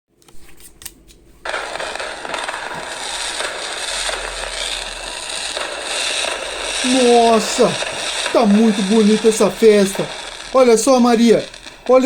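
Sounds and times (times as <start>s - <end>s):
firecrackers popping and crackling: 1.4s - 12.0s.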